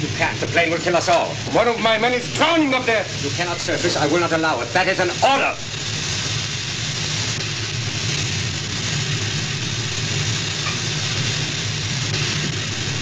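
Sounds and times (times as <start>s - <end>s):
engine drone: 0.0s - 13.0s
even hiss: 0.0s - 13.0s.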